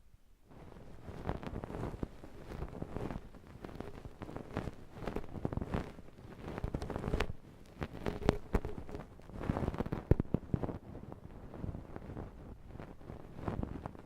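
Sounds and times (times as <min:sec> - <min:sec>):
scraping and rustling: 0:00.5 - 0:14.0.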